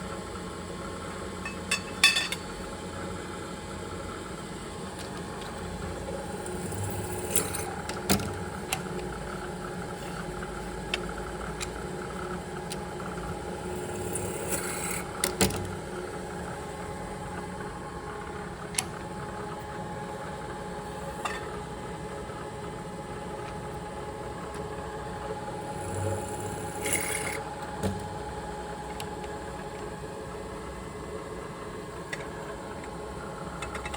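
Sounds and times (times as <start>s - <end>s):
machine shop hum: 0.0s - 33.9s.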